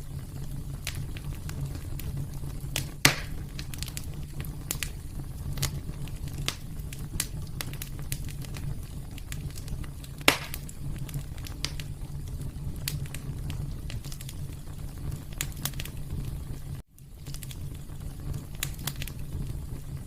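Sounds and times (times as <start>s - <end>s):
loud fire pops: 0.0s - 20.0s
wood fire crackling: 0.0s - 20.0s.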